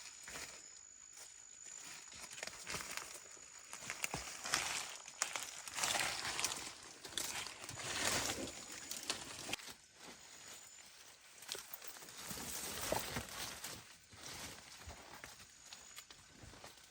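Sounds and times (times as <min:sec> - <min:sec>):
rustling and crinkling: 0:00.0 - 0:16.9.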